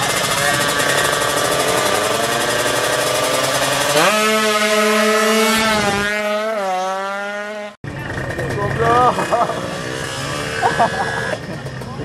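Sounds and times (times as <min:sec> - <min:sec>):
motorcycle engines revving: 0:00.0 - 0:12.0
motorcycle launching: 0:00.0 - 0:12.0.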